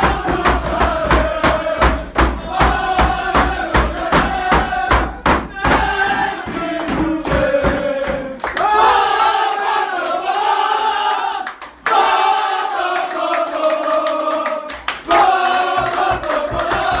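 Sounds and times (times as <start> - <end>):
hand clapping: 0.0 - 17.0
men chanting together: 0.0 - 17.0.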